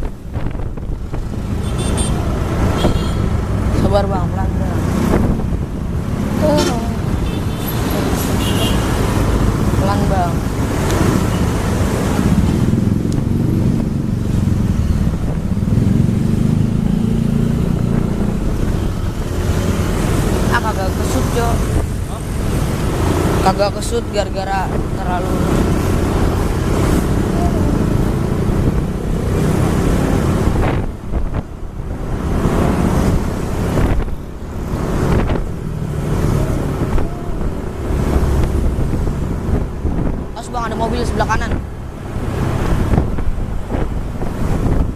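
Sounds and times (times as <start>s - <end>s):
vehicle engine and road noise: 0.0s - 44.9s
wind buffeting microphone: 0.0s - 44.9s.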